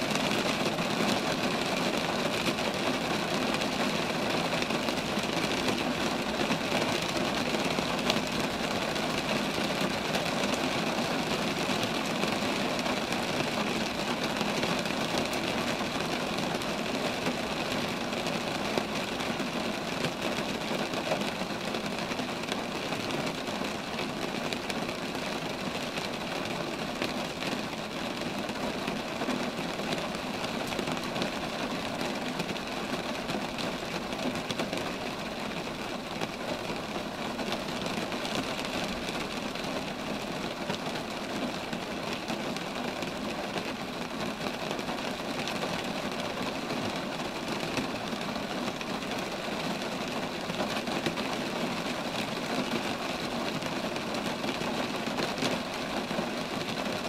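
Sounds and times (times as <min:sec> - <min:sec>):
rain on trees: 0:00.0 - 0:57.0.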